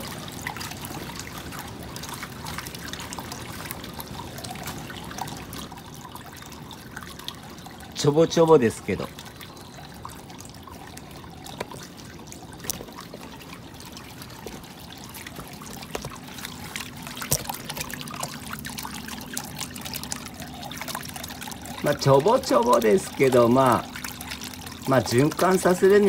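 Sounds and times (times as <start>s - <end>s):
small water splashes: 0.0s - 26.0s
water gurgling from pump outlet: 0.0s - 26.0s.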